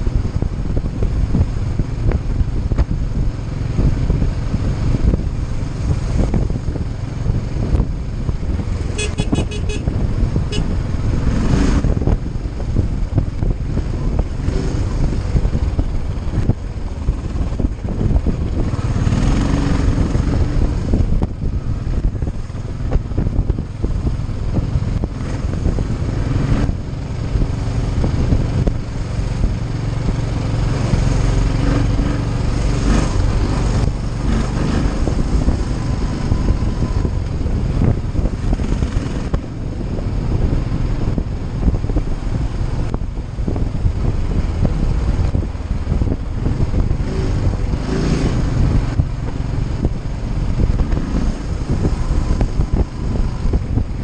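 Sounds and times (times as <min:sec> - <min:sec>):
motorcycle engine running: 0:00.0 - 0:54.0
road noise: 0:00.0 - 0:54.0
wind noise: 0:00.0 - 0:54.0.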